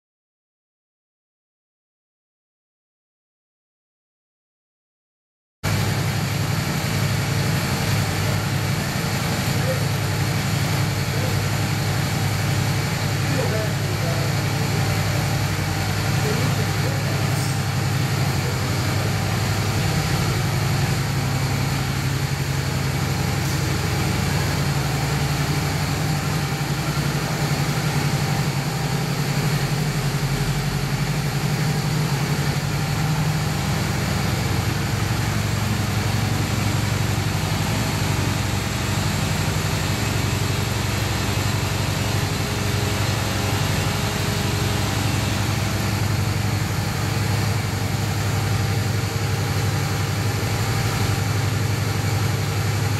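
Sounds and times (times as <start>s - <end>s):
motorcycle engine idling: 5.7s - 52.9s.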